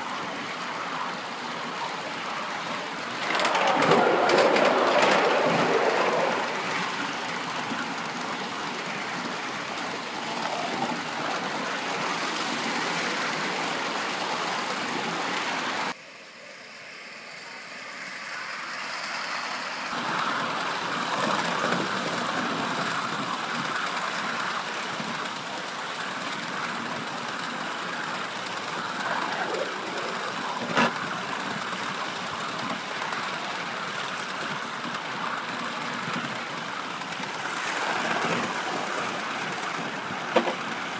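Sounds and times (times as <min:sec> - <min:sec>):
model steam engine running on rails: 0:00.0 - 0:40.9.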